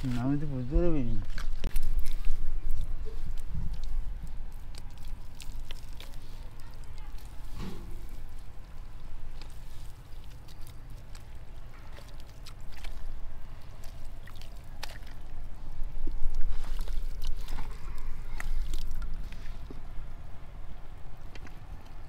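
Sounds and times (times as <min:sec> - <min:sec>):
mud squelching: 0:00.0 - 0:22.0
steady low rumble: 0:00.0 - 0:22.0
water dripping: 0:01.6 - 0:19.3.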